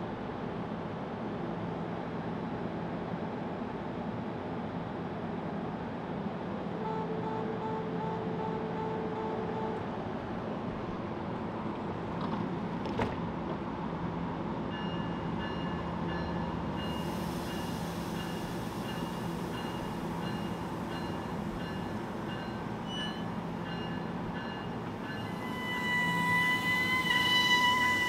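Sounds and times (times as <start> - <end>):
train humming: 0.0 - 28.0.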